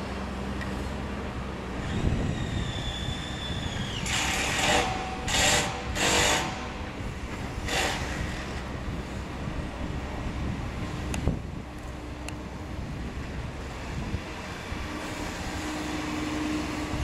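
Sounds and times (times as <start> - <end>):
machinery low rumble: 0.0 - 17.0.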